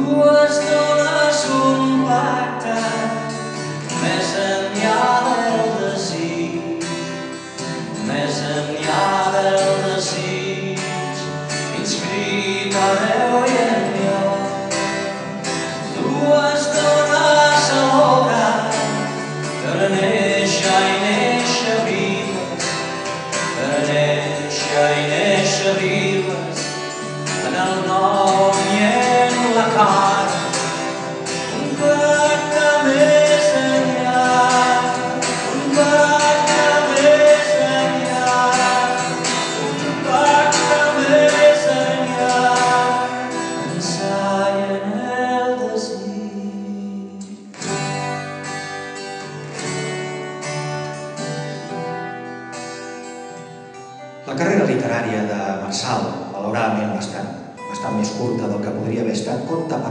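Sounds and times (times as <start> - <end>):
man singing: 0.0 - 47.5, 54.2 - 59.9
acoustic guitar: 0.0 - 59.9.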